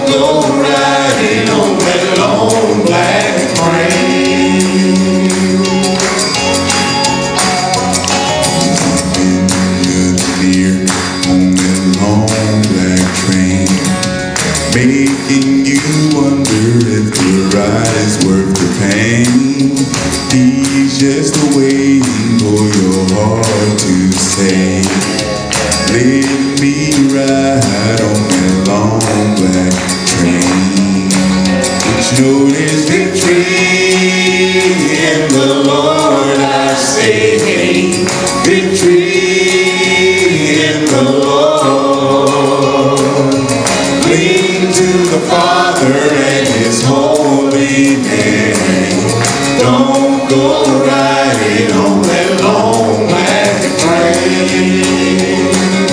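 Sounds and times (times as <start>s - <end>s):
male vocal group singing a cappella: 0.0s - 6.3s, 8.5s - 14.0s, 14.7s - 55.9s
hand-clapping on the beat: 0.0s - 55.9s.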